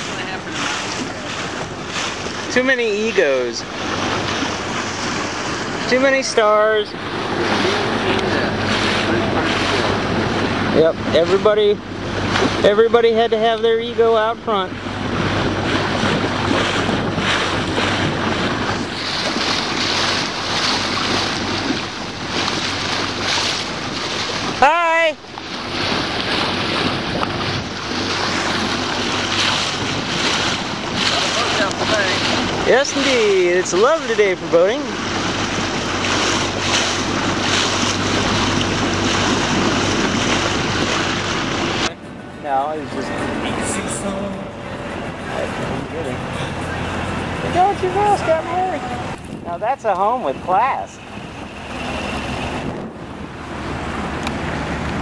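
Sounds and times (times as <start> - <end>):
boat motor humming: 0.0 - 55.0
water splashing against hull: 0.0 - 55.0
wind buffeting microphone: 0.0 - 55.0.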